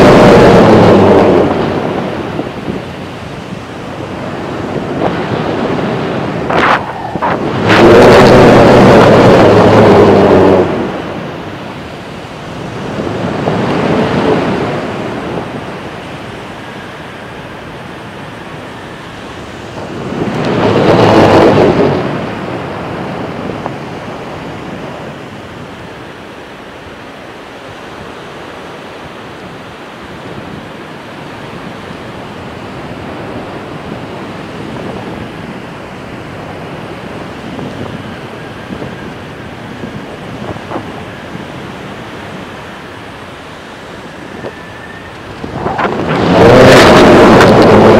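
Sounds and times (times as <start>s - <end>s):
faint surf: 0.0s - 47.9s
wind buffeting microphone: 0.0s - 47.9s.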